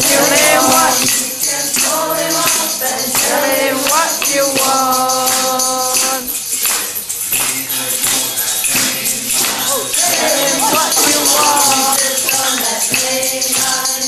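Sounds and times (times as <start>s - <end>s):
group singing a devotional song: 0.0s - 14.0s
jingling hand percussion: 0.0s - 14.0s.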